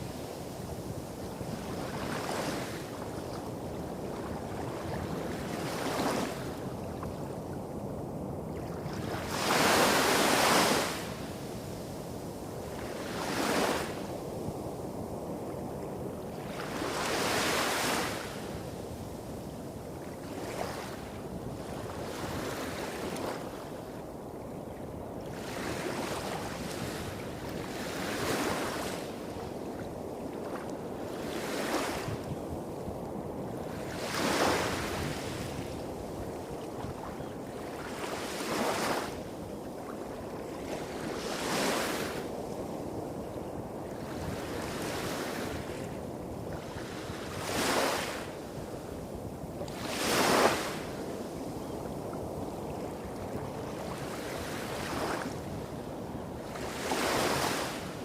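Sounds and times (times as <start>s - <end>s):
small waves washing onto beach: 0.0s - 58.0s.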